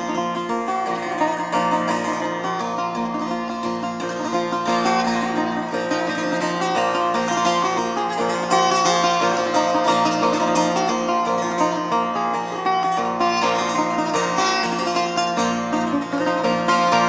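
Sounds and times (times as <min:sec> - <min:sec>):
plucked lute melody with drone: 0:00.0 - 0:17.0.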